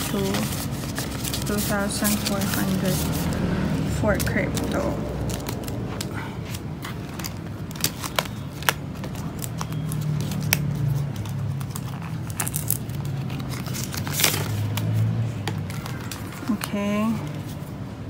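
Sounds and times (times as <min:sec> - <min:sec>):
plastic pages crinkling: 0:00.0 - 0:17.6.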